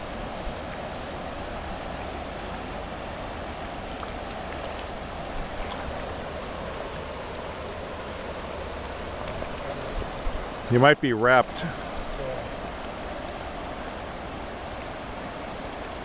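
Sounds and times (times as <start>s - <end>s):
fast river current rushing: 0.0s - 16.0s.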